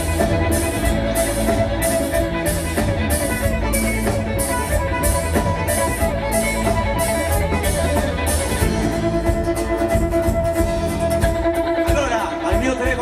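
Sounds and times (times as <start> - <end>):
drums and percussion: 0.0 - 13.0
strummed guitars: 0.0 - 13.0.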